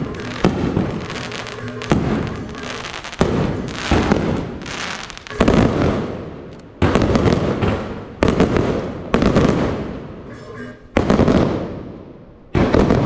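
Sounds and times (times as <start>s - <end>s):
fireworks bursting and crackling: 0.0s - 10.2s, 11.0s - 13.0s.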